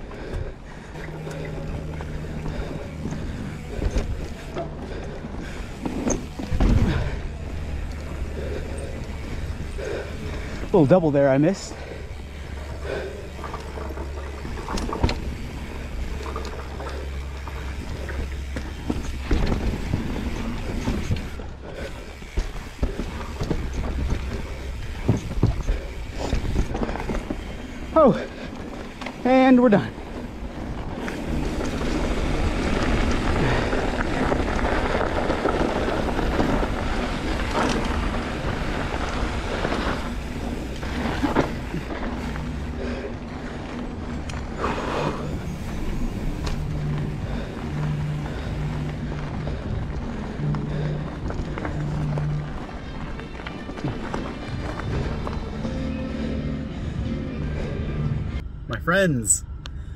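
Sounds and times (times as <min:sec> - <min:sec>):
bike rattles and clicks: 0:00.0 - 0:58.4
bike tyre noise: 0:00.0 - 0:58.5.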